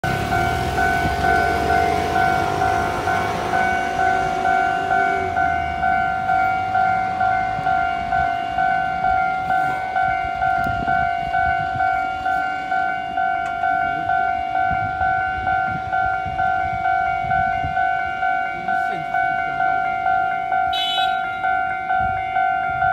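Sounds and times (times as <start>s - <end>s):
level crossing bell ringing: 0.0s - 22.9s
passing train rumbling: 0.0s - 22.9s.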